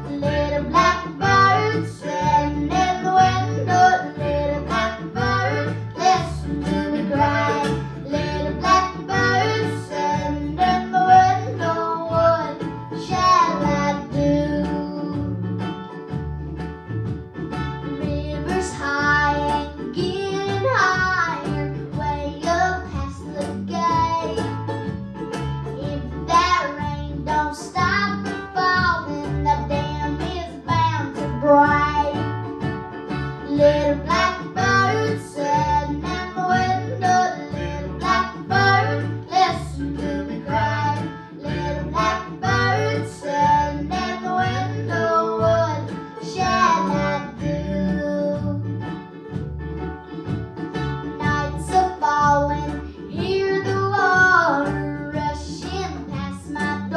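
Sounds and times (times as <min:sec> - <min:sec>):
acoustic string band playing: 0:00.0 - 0:56.9.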